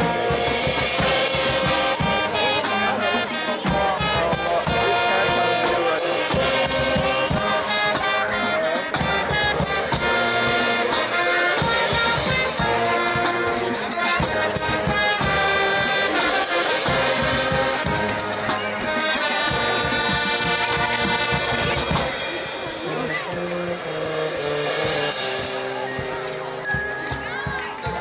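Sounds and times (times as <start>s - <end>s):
wind instruments sustained notes: 0.0s - 28.0s.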